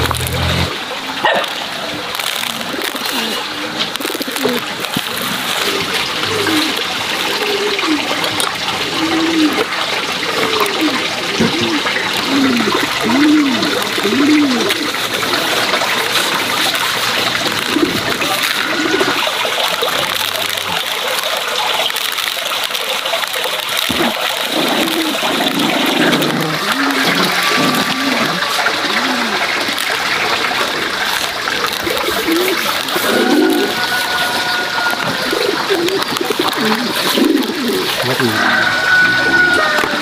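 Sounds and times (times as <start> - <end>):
running water: 0.0 - 40.0
dove cooing: 2.6 - 21.0, 23.7 - 40.0.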